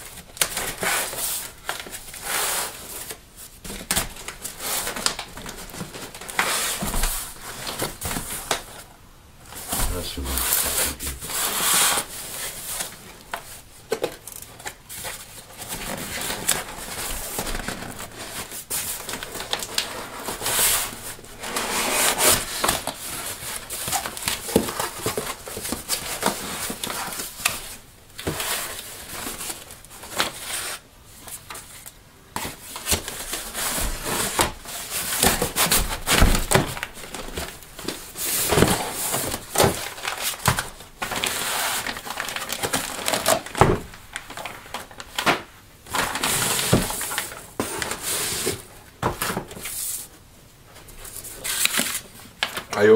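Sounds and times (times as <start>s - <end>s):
cardboard and paper rustling: 0.4s - 8.8s, 9.5s - 52.9s.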